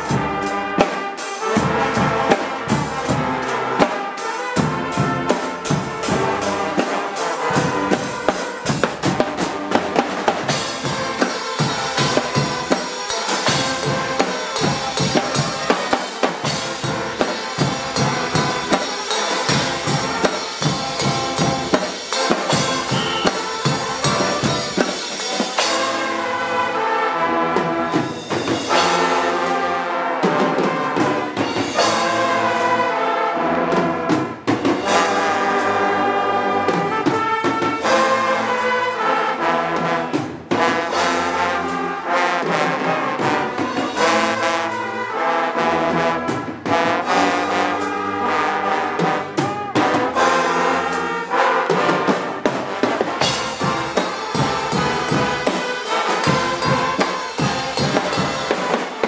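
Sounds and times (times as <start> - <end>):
brass instruments playing: 0.0 - 59.0
marching drums and drum kit: 0.0 - 59.0.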